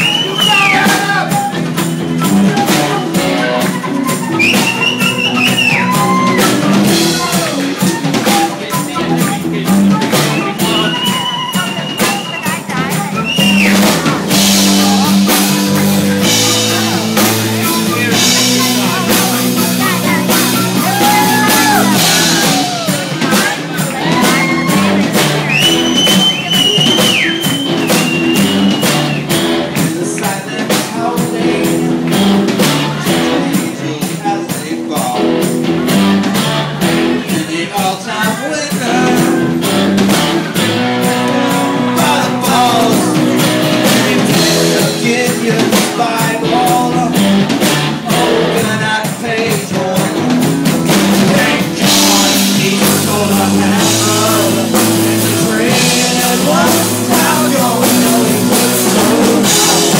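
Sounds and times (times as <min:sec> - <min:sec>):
bass guitar: 0:00.0 - 0:59.9
drums fast steady beat: 0:00.0 - 0:59.9
guitar: 0:00.0 - 0:59.9.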